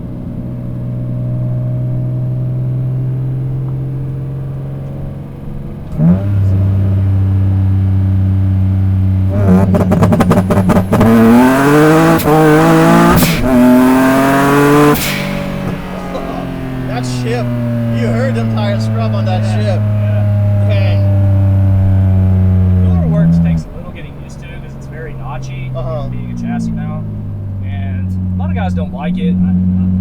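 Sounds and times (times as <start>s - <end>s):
car engine accelerating: 0.0s - 30.0s
tires scrubbing: 2.4s - 30.0s.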